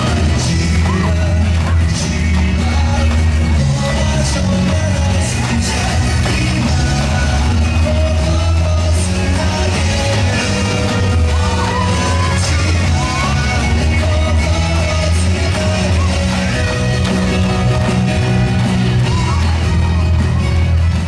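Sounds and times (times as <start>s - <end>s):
pop-rock dance music with singing: 0.0s - 21.0s.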